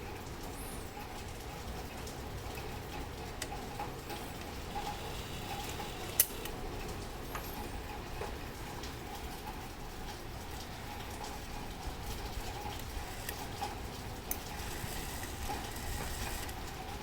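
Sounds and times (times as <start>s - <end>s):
steady background noise: 0.0s - 17.0s
light clicks and ticks: 0.4s - 17.0s.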